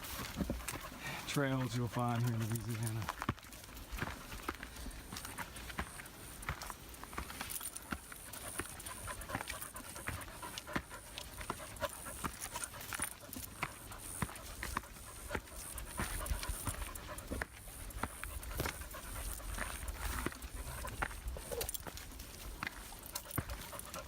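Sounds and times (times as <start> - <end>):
dog panting: 0.0 - 24.0
footsteps crunching on trail: 0.0 - 24.0.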